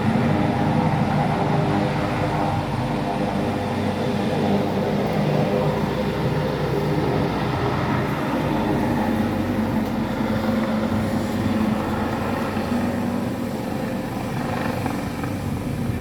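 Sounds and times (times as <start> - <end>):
helicopter turbine and rotor chop: 0.0 - 16.0.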